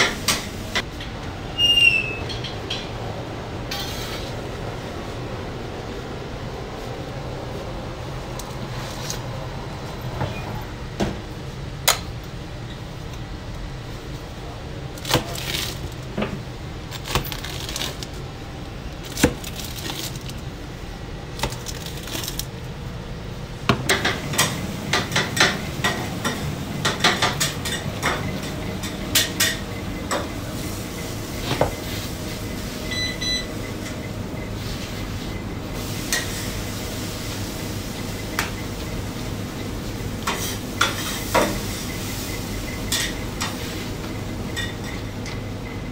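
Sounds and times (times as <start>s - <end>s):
steady low hum: 2.3s - 45.9s.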